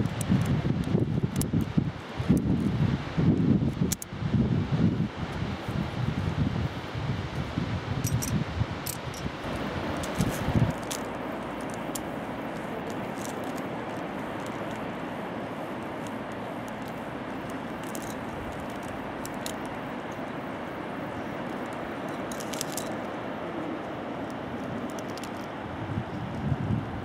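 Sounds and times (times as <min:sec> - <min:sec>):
river rushing: 0:00.0 - 0:27.0.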